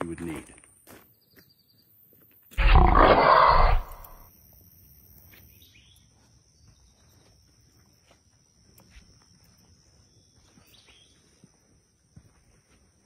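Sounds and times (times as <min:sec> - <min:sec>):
faint high-pitched insect trill: 0:00.0 - 0:13.0.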